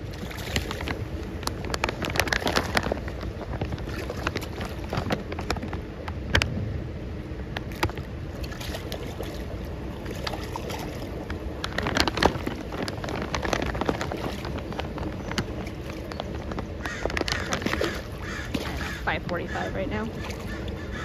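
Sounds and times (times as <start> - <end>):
fish splashing in water: 0.0 - 6.4, 7.4 - 21.0.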